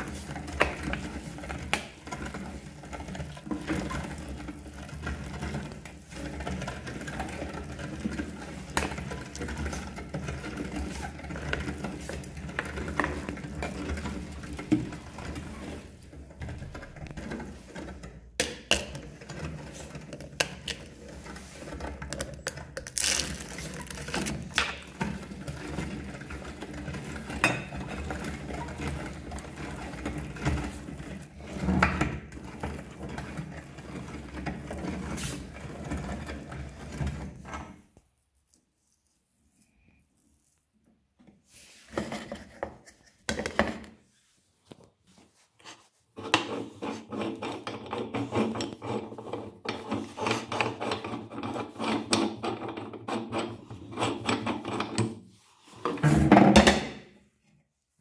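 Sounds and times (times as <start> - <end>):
hand-cranked meat grinder churning: 0.0 - 37.8, 46.2 - 55.2.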